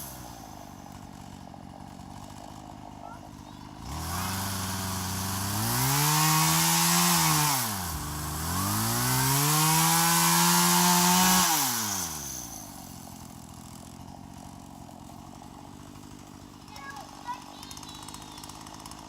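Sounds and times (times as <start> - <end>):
chainsaw revving and idling: 0.0 - 19.0.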